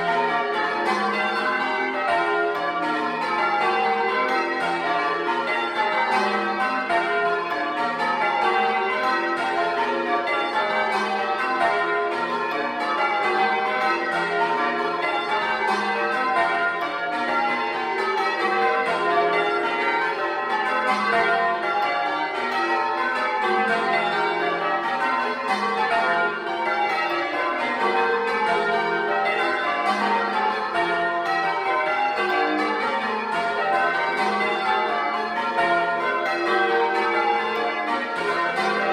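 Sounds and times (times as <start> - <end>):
church bells change ringing: 0.0 - 38.9.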